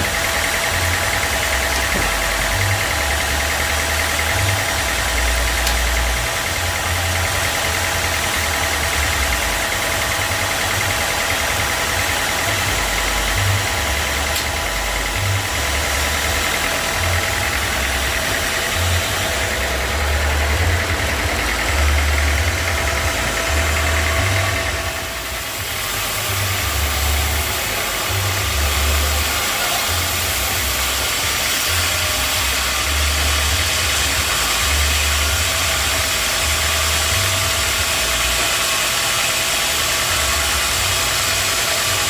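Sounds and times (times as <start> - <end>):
sawmill machinery drone: 0.0 - 42.0
whining tones: 0.0 - 42.0.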